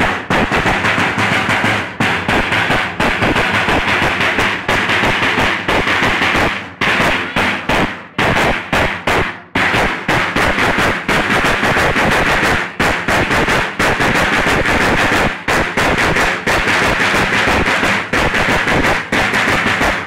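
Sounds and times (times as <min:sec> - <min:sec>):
large drums beaten fast: 0:00.0 - 0:20.0.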